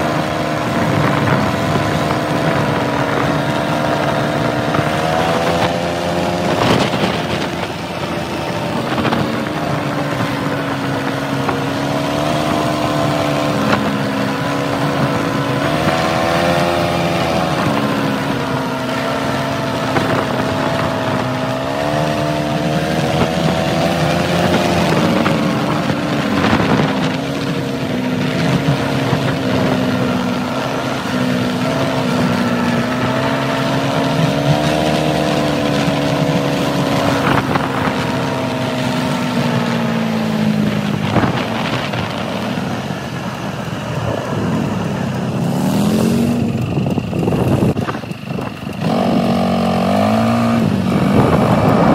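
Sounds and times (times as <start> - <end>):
quad engine running: 0.0 - 51.9
wind rushing over microphone: 0.0 - 51.9.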